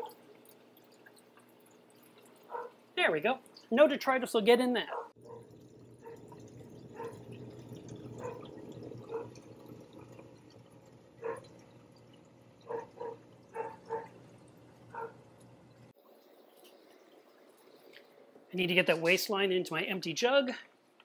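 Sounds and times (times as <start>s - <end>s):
water dripping and plinking: 0.0s - 4.5s, 5.2s - 19.8s.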